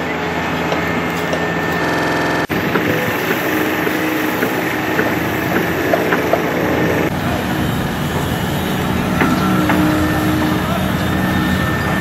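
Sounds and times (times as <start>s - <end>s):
diesel engine hum: 0.0s - 12.0s.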